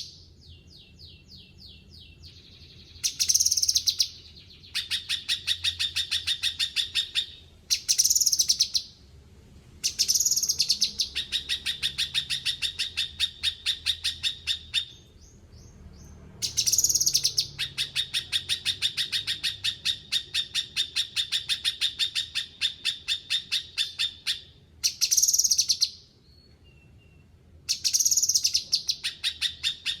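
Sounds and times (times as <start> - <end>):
bird singing: 0.0 - 9.0, 9.8 - 30.0.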